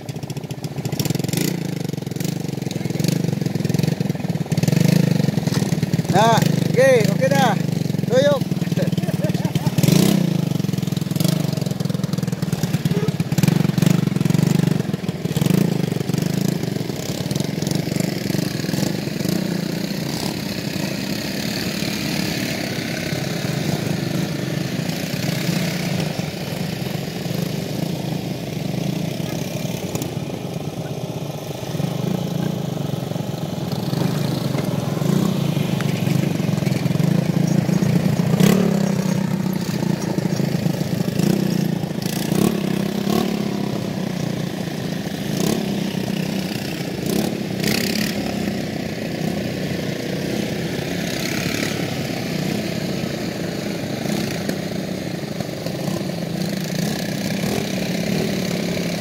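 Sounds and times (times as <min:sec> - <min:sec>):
quad bike engines droning: 0:00.0 - 0:59.0.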